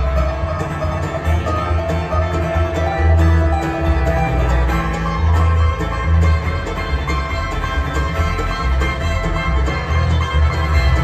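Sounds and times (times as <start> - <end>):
banjo picking: 0.0 - 11.0
fiddle: 0.0 - 11.0
mandolin: 0.0 - 11.0
plucked upright bass: 0.0 - 11.0.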